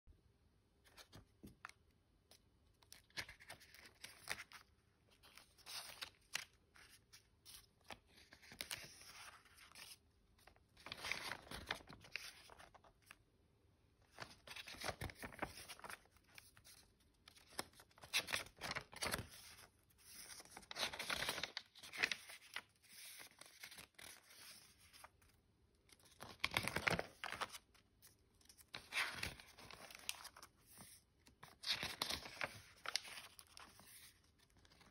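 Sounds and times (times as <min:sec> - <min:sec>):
paper rustling and flapping: 0:02.8 - 0:13.2, 0:14.0 - 0:25.3, 0:25.9 - 0:34.9.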